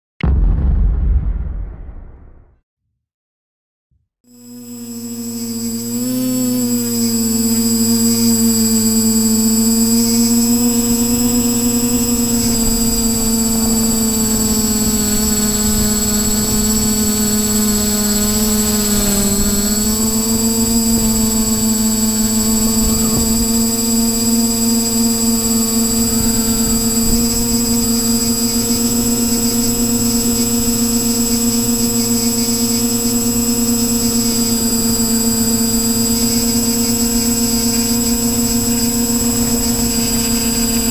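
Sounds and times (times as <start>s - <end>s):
quadcopter motors droning: 4.3s - 40.9s.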